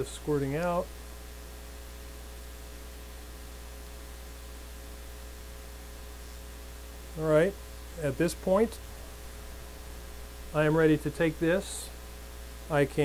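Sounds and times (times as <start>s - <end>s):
faint constant tone: 0.0s - 13.0s
low electrical hum: 0.0s - 13.0s.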